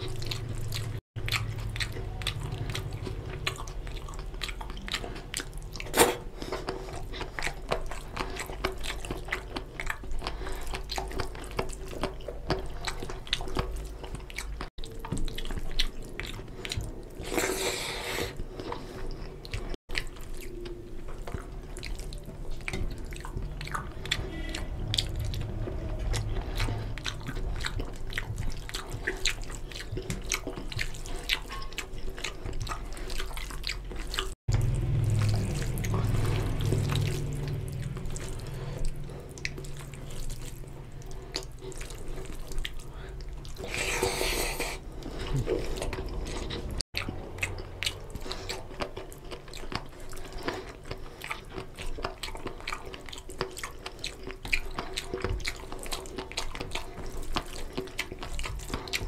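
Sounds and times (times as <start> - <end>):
chewing and lip smacks: 0.0 - 59.0.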